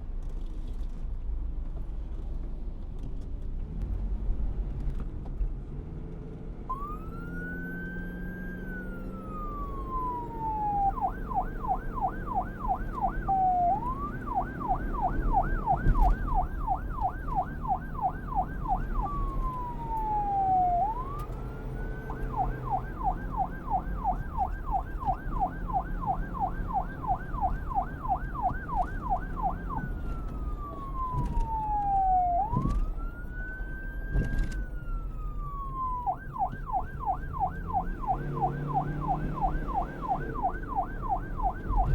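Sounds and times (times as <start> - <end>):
low vehicle rumble: 0.0 - 41.9
police siren wailing and yelping: 6.7 - 41.9.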